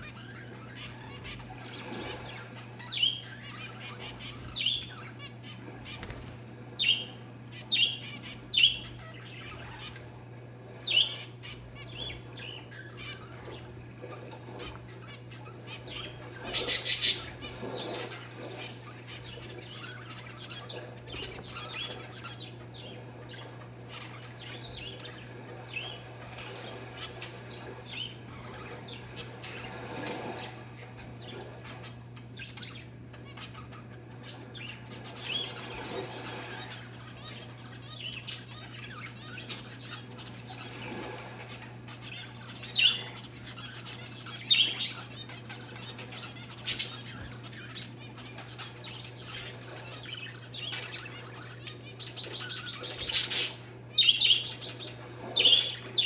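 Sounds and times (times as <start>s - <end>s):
parakeets and finches chirping: 0.0s - 56.0s
steady low hum: 0.0s - 56.0s.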